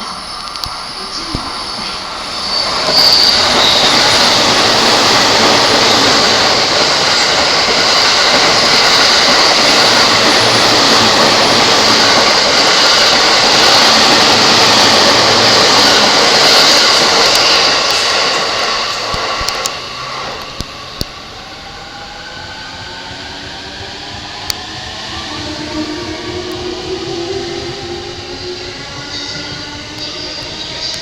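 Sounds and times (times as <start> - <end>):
electric train passing: 0.0 - 31.0.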